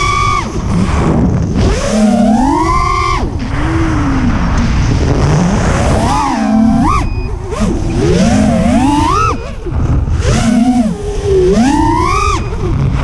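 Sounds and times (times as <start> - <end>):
drone motors whining: 0.0 - 13.0
rough wind noise: 0.0 - 13.0.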